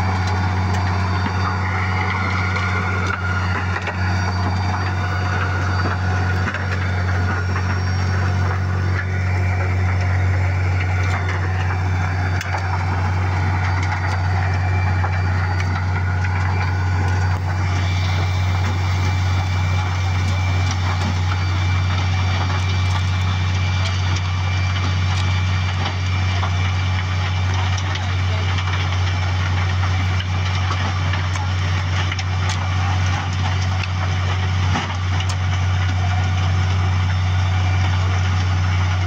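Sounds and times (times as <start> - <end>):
constant rushing noise: 0.0 - 39.0
diesel engine humming: 0.0 - 39.0.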